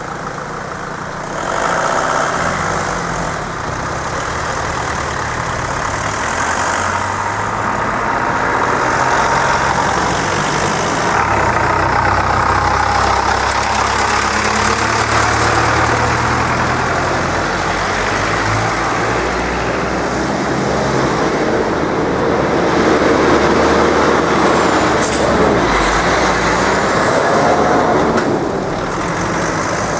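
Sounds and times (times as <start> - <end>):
cars and lorries driving past: 0.0 - 29.9
tyres on road: 0.0 - 29.9.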